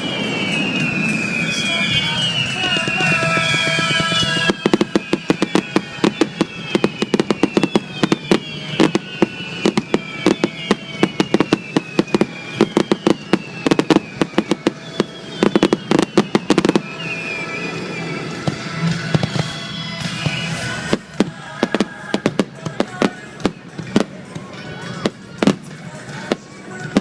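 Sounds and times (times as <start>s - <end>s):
falling whistle tones: 0.0s - 24.2s
fireworks bangs and crackling pops: 0.0s - 27.0s.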